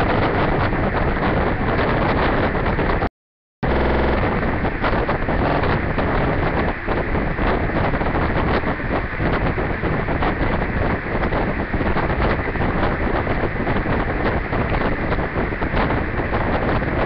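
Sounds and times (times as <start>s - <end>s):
loud steady noise: 0.0s - 17.0s.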